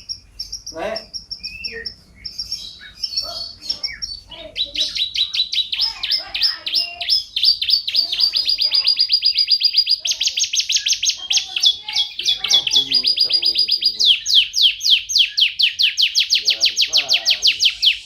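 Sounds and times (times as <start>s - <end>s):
fast bird trill: 0.0s - 18.0s
songbird singing: 0.0s - 18.0s.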